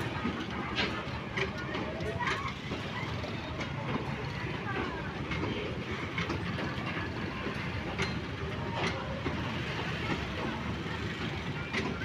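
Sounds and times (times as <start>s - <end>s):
rail wagons rumbling past: 0.0s - 12.0s.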